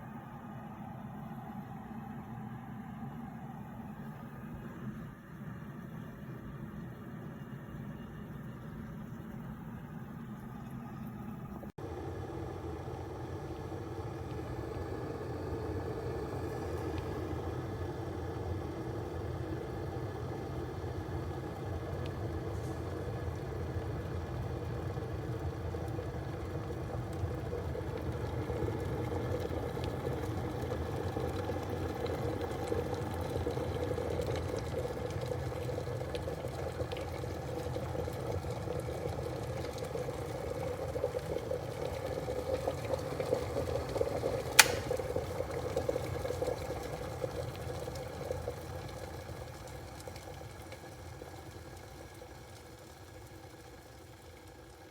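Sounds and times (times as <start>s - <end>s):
electric kettle heating water: 0.0s - 54.9s.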